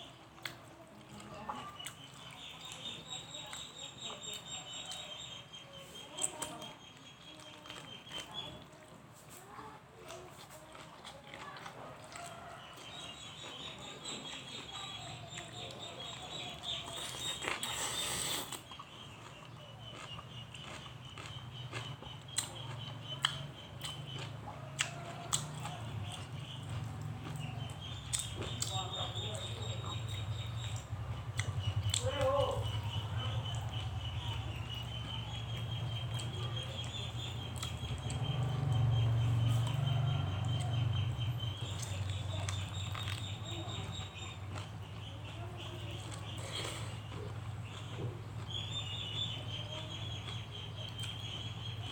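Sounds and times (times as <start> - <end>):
wet chewing: 0.0 - 51.9.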